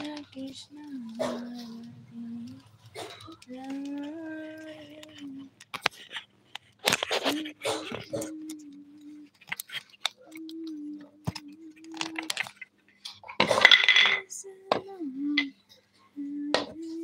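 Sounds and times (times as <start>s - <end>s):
plastic bag crinkling: 0.0s - 13.8s.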